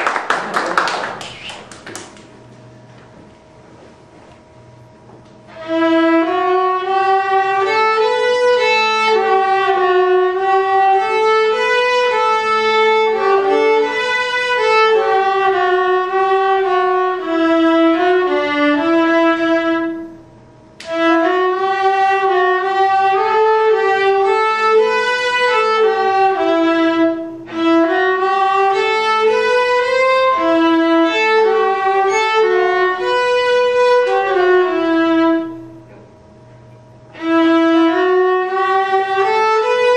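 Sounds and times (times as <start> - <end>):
string duet: 5.0 - 39.9.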